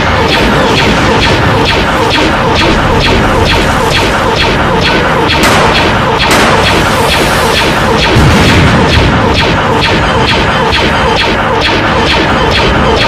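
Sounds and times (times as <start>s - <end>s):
deep rumble: 0.0s - 11.0s
booms and blasts: 0.0s - 13.0s
music with fast steady beat: 0.0s - 13.0s.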